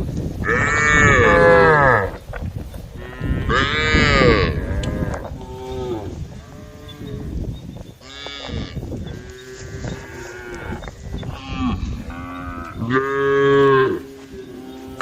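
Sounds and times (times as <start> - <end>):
cows mooing: 0.4 - 2.2, 2.9 - 7.4, 8.0 - 15.0.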